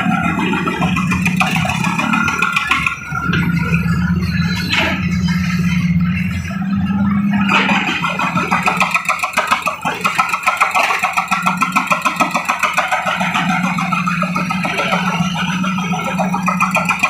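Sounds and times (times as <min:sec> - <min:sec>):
construction machine engine pulsing: 0:00.0 - 0:17.0.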